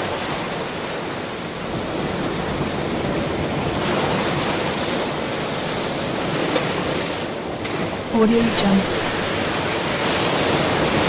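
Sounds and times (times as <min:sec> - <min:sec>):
ocean waves breaking on shore: 0:00.0 - 0:11.0.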